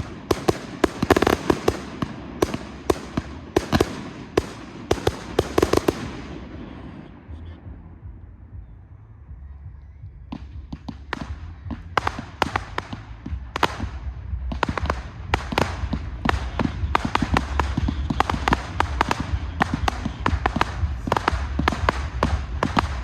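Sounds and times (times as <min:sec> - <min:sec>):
fireworks bangs and crackles: 0:00.0 - 0:08.2, 0:10.3 - 0:23.0
low rumble: 0:00.0 - 0:23.0.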